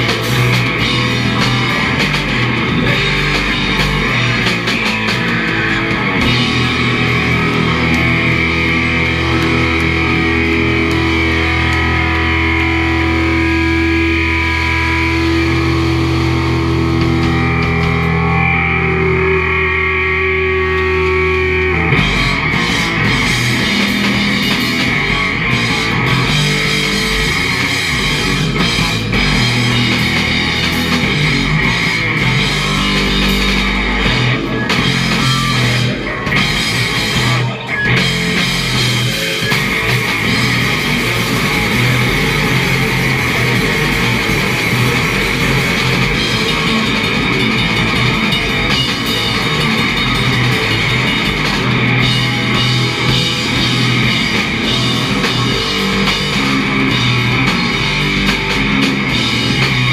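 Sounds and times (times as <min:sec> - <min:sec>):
bass guitar: 0:00.0 - 0:59.9
distorted electric guitar: 0:00.0 - 0:59.9.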